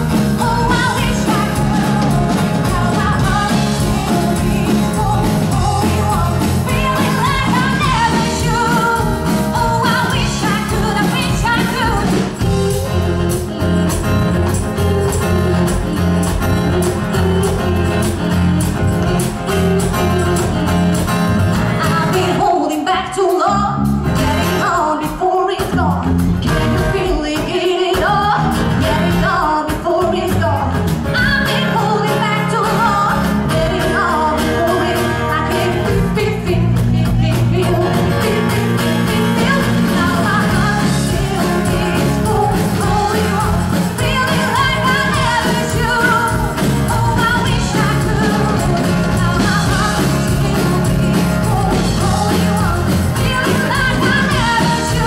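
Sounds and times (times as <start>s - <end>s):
woman singing into microphone: 0.0s - 21.0s, 21.7s - 55.0s
bass guitar: 0.0s - 55.0s
drums: 0.0s - 55.0s
electric guitar: 0.0s - 55.0s.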